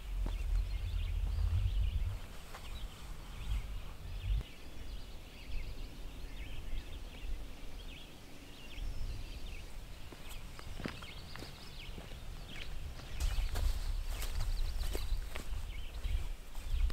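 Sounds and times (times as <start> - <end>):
birds chirping: 0.0 - 16.9
low outdoor rumble: 0.0 - 16.9.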